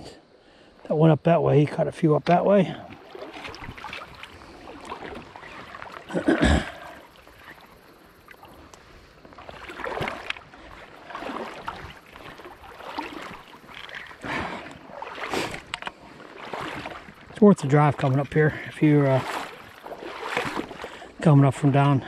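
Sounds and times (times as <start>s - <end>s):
water sloshing around wading legs: 1.5s - 22.0s.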